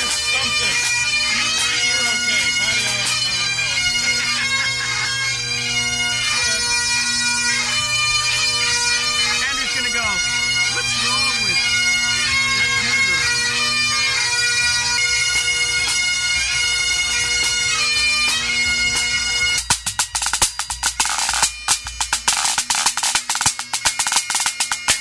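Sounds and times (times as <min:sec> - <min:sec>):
bagpipes playing: 0:00.0 - 0:25.0.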